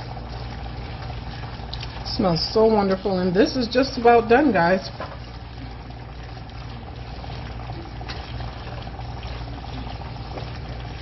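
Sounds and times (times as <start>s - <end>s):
sauce bubbling and sizzling: 0.0s - 11.0s
spatula stirring in pan: 0.0s - 11.0s.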